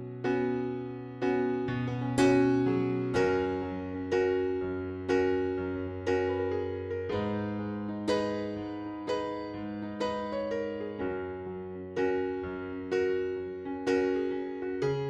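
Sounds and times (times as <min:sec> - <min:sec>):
electric piano chords: 0:00.0 - 0:15.0.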